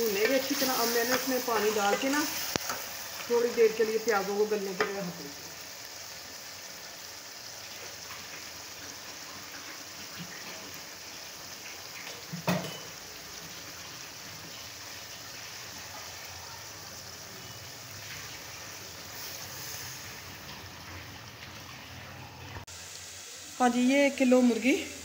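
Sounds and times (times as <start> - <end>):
pot simmering with bubbling hiss: 0.0 - 25.0.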